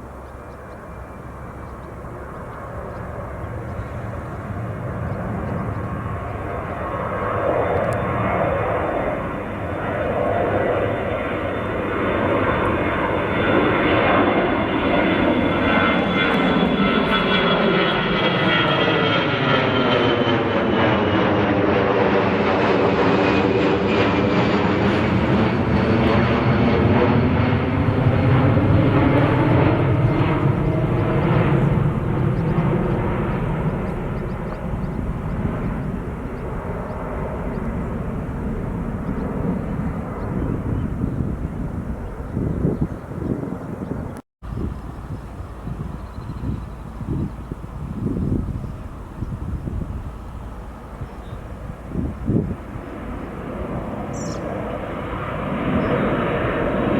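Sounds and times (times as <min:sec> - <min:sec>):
jet airliner passing: 0:00.0 - 0:56.9.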